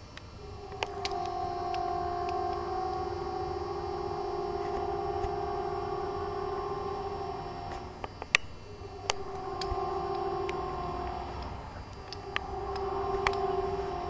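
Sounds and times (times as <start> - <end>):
siren steady two tones: 0.0 - 14.0.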